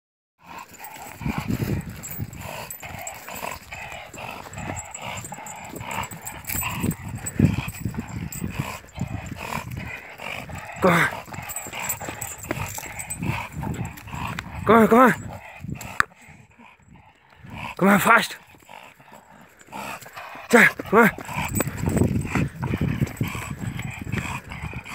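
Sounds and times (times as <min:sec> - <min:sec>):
dog straining noises: 0:00.4 - 0:24.9.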